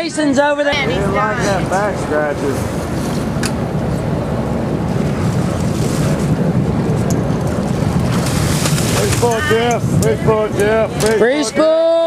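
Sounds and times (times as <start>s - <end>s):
boat engine rumble: 0.0s - 12.0s
wind buffeting microphone: 0.3s - 12.0s.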